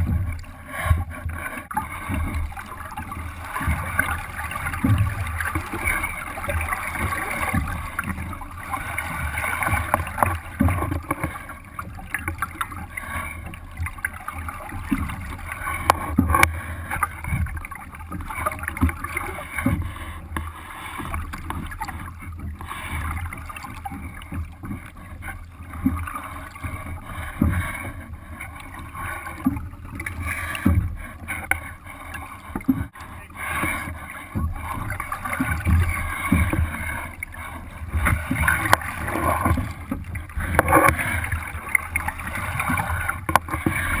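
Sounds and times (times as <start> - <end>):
water slapping against boat hull: 0.0 - 44.0.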